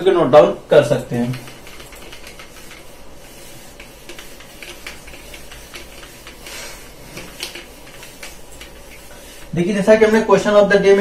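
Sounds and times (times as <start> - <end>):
duster rubbing on whiteboard: 1.0 - 10.3.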